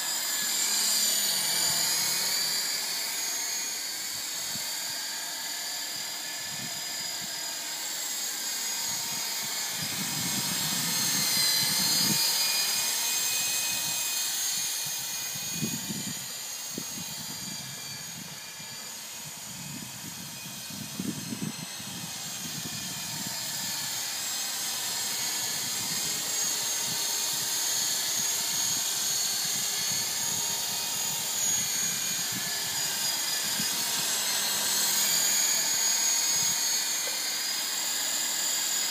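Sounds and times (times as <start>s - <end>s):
toy helicopter motor whine: 0.0s - 38.9s.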